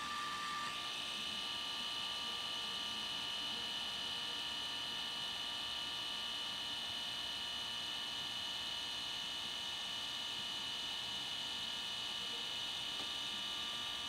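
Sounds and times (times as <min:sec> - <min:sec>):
printer motor whine: 0:00.0 - 0:14.0.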